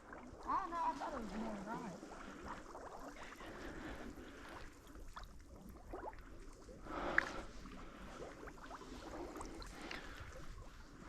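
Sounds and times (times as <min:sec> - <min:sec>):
water sloshing around wading person: 0:00.0 - 0:11.0.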